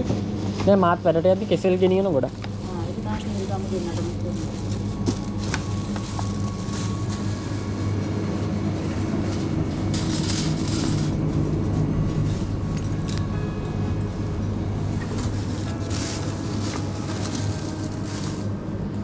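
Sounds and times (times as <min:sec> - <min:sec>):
supermarket background rumble and hum: 0:00.0 - 0:19.0.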